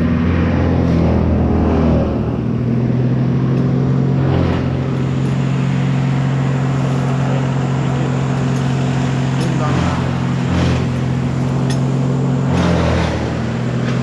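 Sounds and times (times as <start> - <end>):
large engine running steadily: 0.0 - 14.0.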